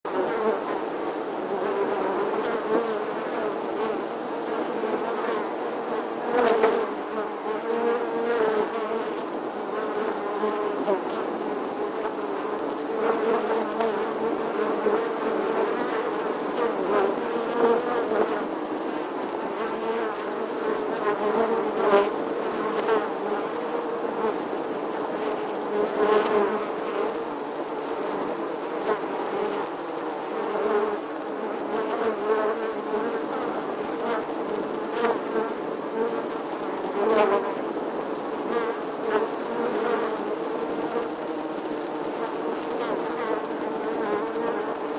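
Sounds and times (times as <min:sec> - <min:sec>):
bee buzzing: 0:00.1 - 0:44.9.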